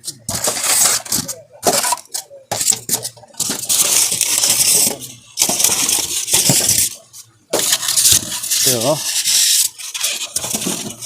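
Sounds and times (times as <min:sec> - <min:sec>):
packaging rustling and scraping: 0:00.0 - 0:11.0.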